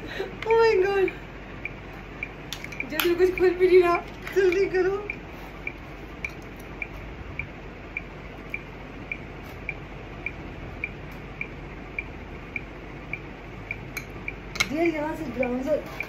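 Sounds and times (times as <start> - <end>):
timer ticking: 0.4 - 16.0.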